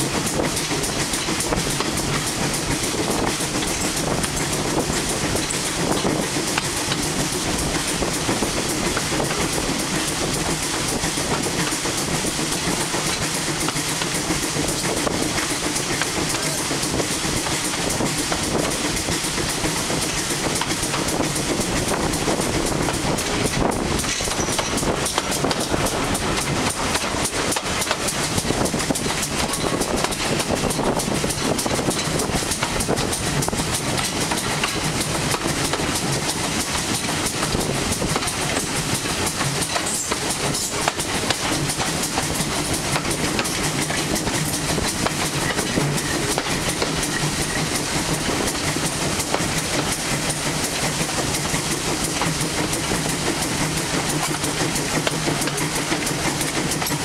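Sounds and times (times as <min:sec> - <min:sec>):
steam locomotive exhaust: 0:00.0 - 0:57.0
wheels clacking over rail joints: 0:00.0 - 0:57.0.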